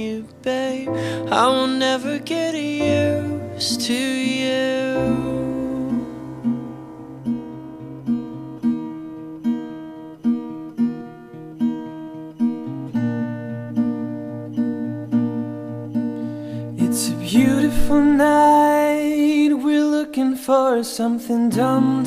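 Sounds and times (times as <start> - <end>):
acoustic guitar picking: 0.0 - 22.0.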